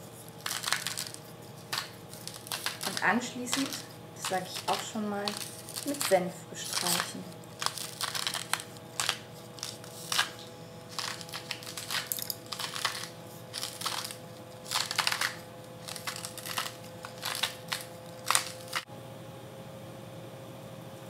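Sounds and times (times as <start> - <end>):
spice mill grinding: 0.0 - 18.9
faint steady hum: 0.0 - 21.0.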